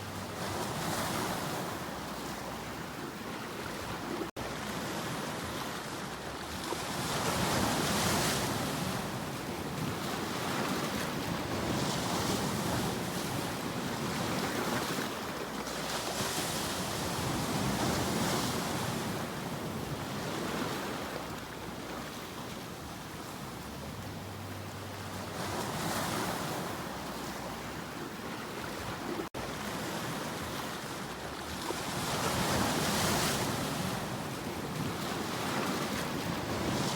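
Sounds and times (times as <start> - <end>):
ocean waves breaking on shore: 0.0 - 36.9.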